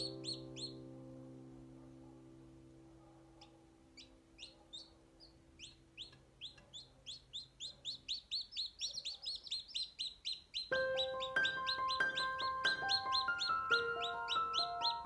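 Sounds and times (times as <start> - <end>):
chicks peeping: 0.0 - 0.9, 3.4 - 15.0.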